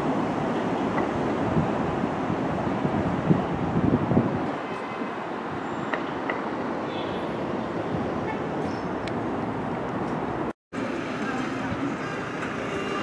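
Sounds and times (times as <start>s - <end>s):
distant elevated subway train: 0.0s - 13.0s
street traffic: 0.0s - 13.0s.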